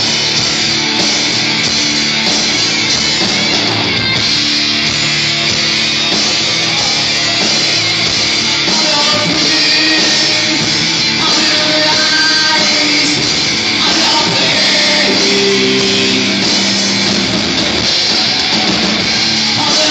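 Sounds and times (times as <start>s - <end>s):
band playing loud music: 0.0s - 19.9s.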